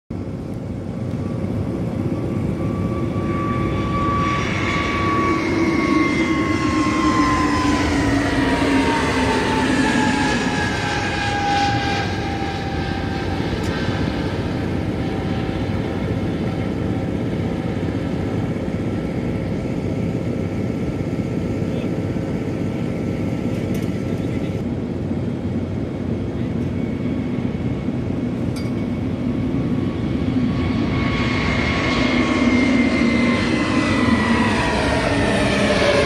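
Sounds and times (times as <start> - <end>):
jet engines roaring: 0.2 - 36.0.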